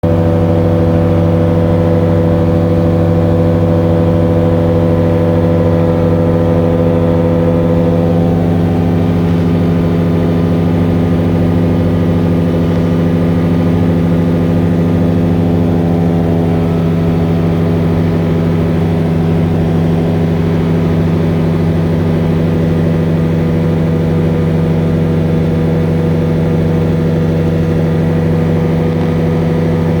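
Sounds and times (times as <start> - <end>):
motor humming steadily: 0.0 - 30.0.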